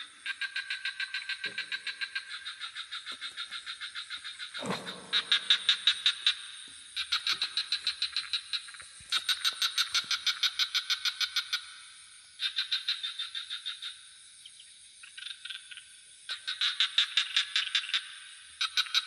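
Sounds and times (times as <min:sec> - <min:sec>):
frogs calling in rapid pulses: 0:00.0 - 0:19.0.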